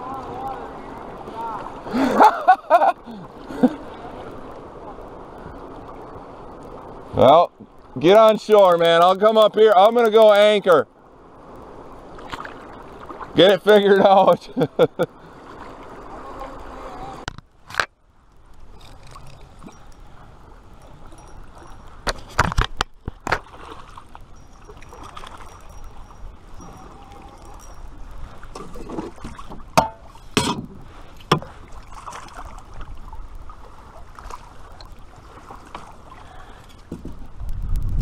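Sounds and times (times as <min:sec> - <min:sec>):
water moving along hull: 0:00.0 - 0:38.0.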